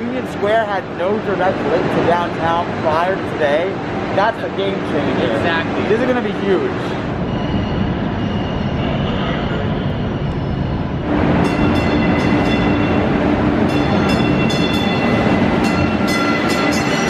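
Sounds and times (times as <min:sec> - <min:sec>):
steady whine: 0:00.0 - 0:17.0
train rumble: 0:00.0 - 0:17.0.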